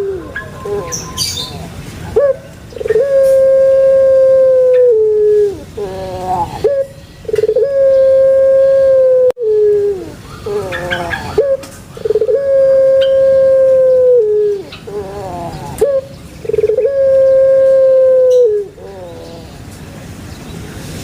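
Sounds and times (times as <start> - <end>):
dove cooing: 0.0 - 19.7.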